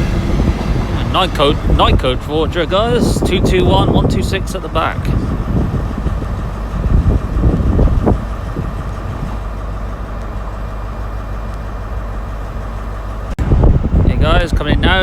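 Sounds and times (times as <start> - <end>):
train diesel engine hum: 0.0 - 15.0.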